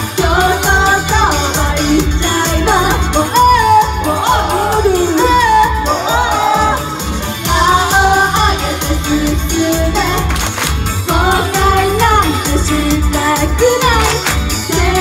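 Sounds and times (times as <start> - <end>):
female vocalists singing: 0.0 - 15.0
pop music with heavy bass beat: 0.0 - 15.0.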